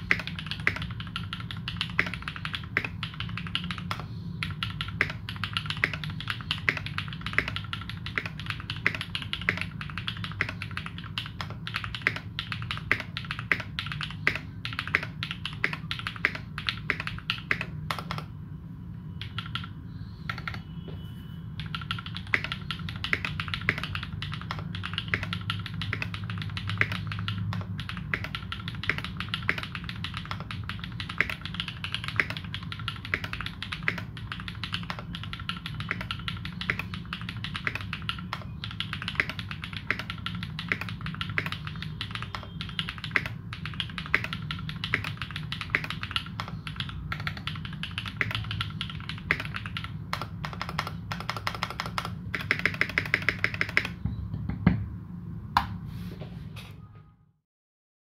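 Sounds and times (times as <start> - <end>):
fast mechanical keyboard typing: 0.0 - 18.4, 19.2 - 20.6, 21.6 - 54.0.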